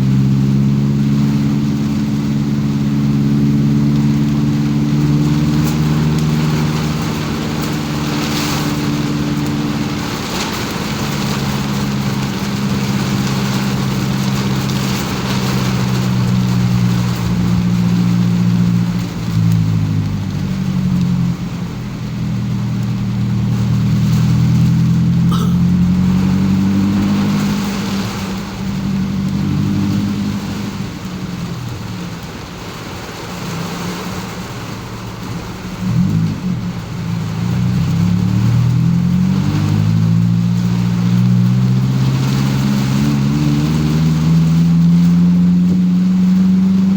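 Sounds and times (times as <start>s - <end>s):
car engine accelerating: 0.0s - 46.9s
rain: 0.0s - 46.9s
tyres hissing on wet road: 0.0s - 46.9s.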